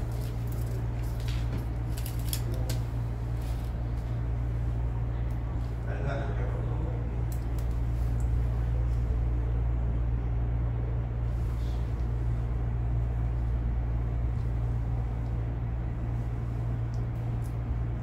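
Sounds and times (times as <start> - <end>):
machinery droning hum: 0.0 - 18.0.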